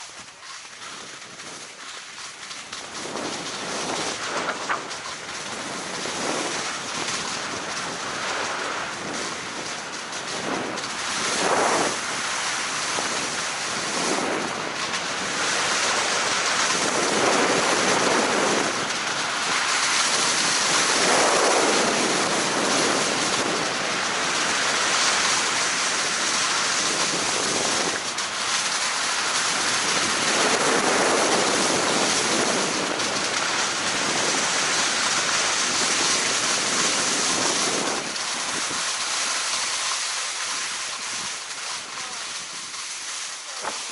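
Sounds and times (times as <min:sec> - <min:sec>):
skis sliding on packed snow: 0:00.0 - 0:43.9
wind rushing over microphone: 0:02.7 - 0:43.9.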